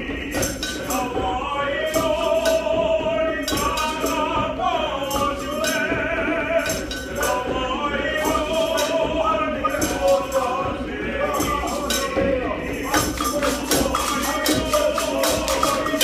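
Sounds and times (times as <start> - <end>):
hand percussion strikes: 0.0 - 16.0
men's choir singing: 0.0 - 16.0.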